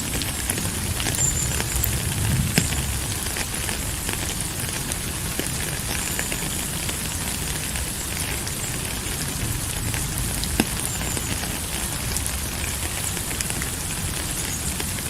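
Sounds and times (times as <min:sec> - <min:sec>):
rain with ticking drops: 0:00.0 - 0:15.0.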